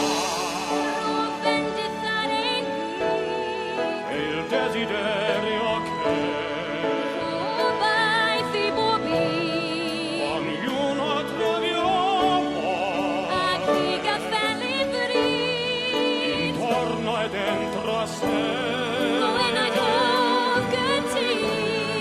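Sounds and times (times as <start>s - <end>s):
instrumental accompaniment: 0.0s - 22.0s
operatic duet singing: 0.0s - 22.0s.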